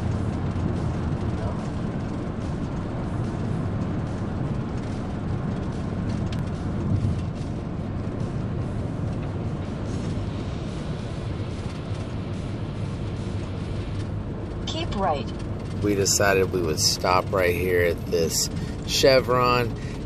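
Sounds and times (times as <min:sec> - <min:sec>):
van road and engine noise: 0:00.0 - 0:20.0.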